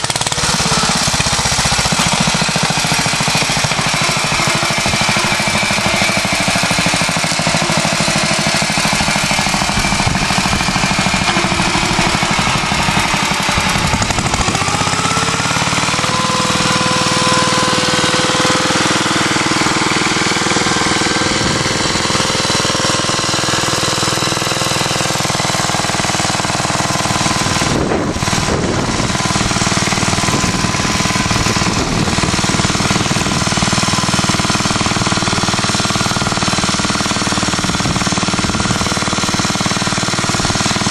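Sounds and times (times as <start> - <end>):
tractor engine running hard: 0.0 - 40.9.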